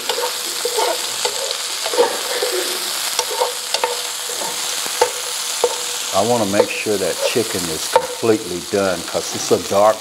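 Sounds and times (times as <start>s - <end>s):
metal spoon scraping pan: 0.0s - 8.3s
chicken sizzling in oil: 0.0s - 10.0s.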